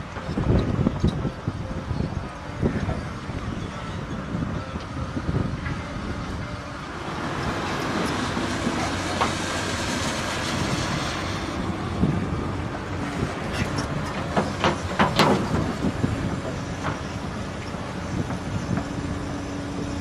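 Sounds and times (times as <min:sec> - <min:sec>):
heavy machinery rumbling: 0:00.0 - 0:20.0.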